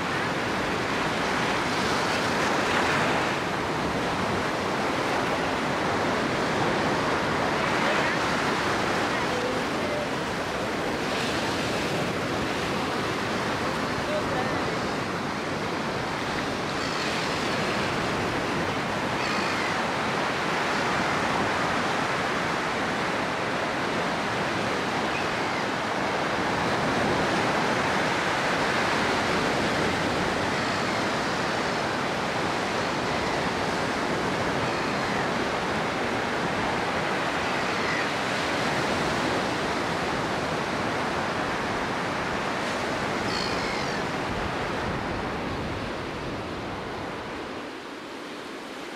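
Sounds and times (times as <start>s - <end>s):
waves washing onto beach: 0.0s - 48.9s.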